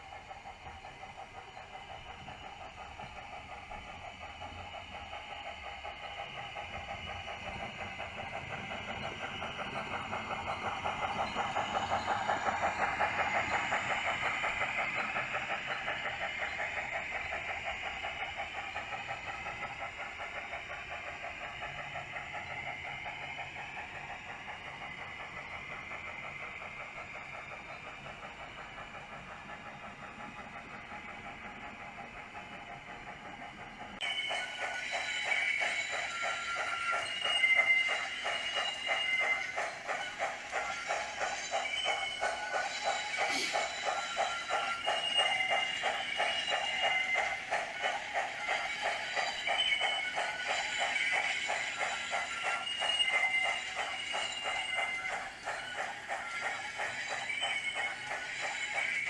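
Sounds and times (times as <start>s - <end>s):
model locomotive chuffing: 0.0s - 59.0s
model train wheels and motor humming: 0.0s - 59.0s.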